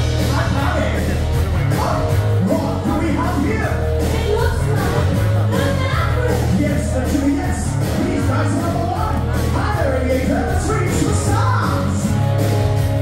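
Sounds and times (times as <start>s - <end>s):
parade music with singing: 0.0s - 13.0s
steady drum beat: 0.0s - 13.0s.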